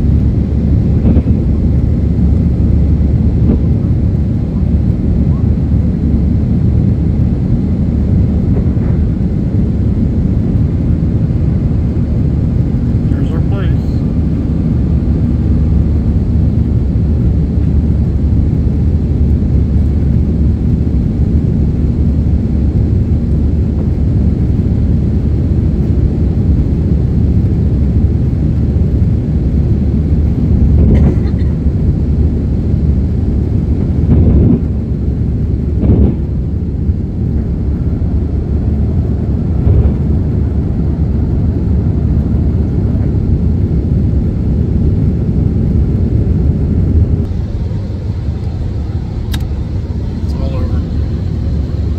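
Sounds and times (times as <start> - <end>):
aircraft cabin engine noise: 0.0 - 51.9.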